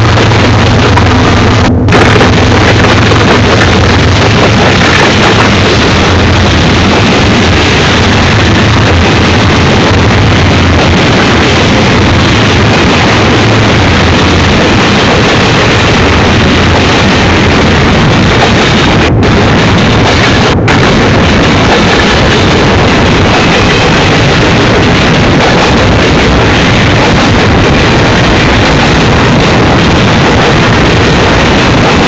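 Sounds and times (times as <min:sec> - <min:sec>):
diesel locomotive drone: 0:00.0 - 0:32.0
train wheel and rail noise: 0:00.0 - 0:32.0.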